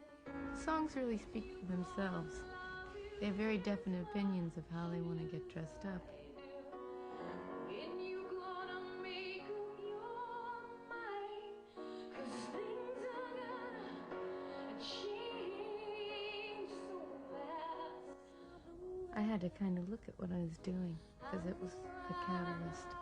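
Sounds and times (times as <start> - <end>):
woman singing with vibrato: 0.0 - 23.0.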